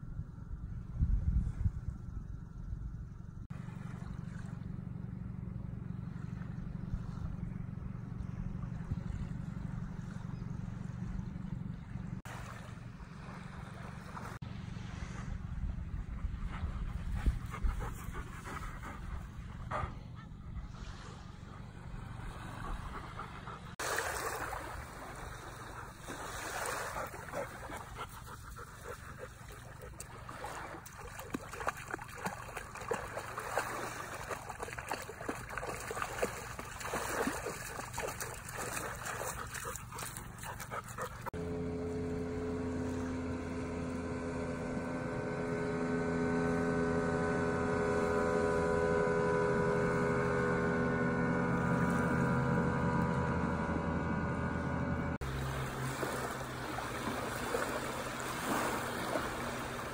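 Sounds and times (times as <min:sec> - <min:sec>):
outboard engine running: 0:00.0 - 0:59.9
sea water splashing and lapping: 0:03.5 - 0:59.9.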